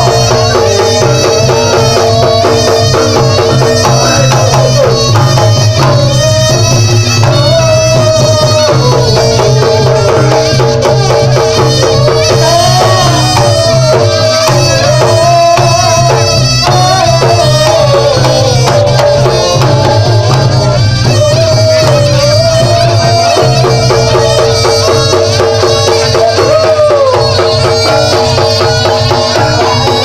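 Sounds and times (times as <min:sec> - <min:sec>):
rapid drum strokes: 0:00.0 - 0:30.0
shrill reed trumpet melody: 0:00.0 - 0:30.0.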